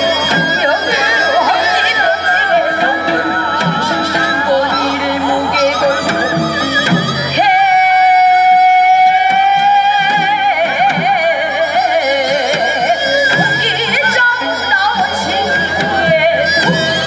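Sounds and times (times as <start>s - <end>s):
traditional singing with instruments: 0.0s - 17.0s.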